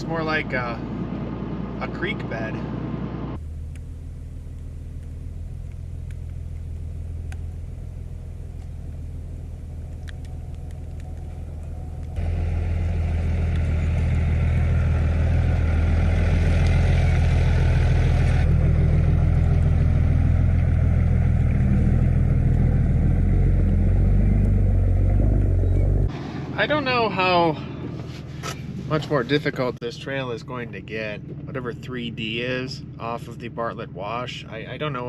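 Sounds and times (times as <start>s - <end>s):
road noise: 0.0s - 35.0s
truck engine humming: 0.0s - 35.0s.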